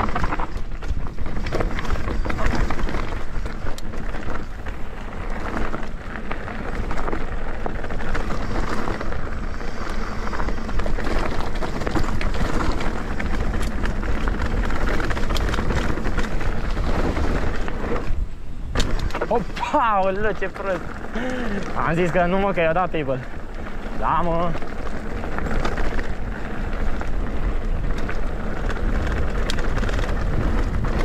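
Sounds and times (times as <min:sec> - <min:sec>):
bike clicks and knocks: 0:00.0 - 0:31.0
tyres rumbling on dirt: 0:00.0 - 0:31.0
wind rushing over microphone: 0:00.0 - 0:31.0.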